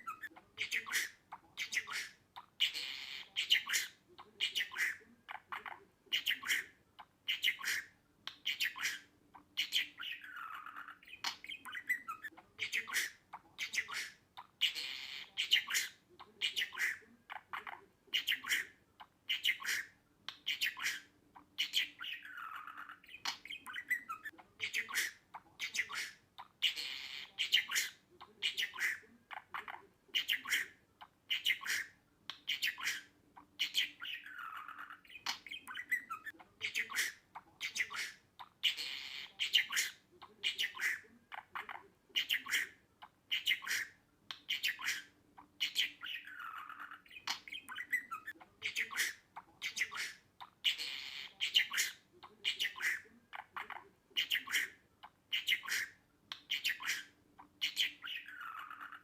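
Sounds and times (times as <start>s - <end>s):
budgerigar chattering: 0.0s - 59.0s.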